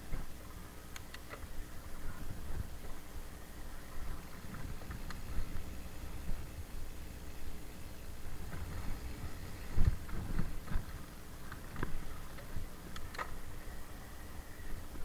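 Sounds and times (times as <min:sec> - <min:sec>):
bike knocking and rattling: 0:01.0 - 0:07.5, 0:08.2 - 0:14.1
wind on microphone: 0:01.5 - 0:15.0.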